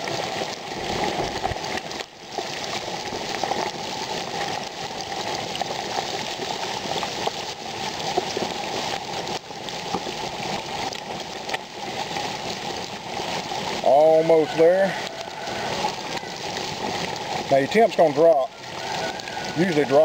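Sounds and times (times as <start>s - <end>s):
hot oil bubbling and sizzling: 0.0s - 20.0s.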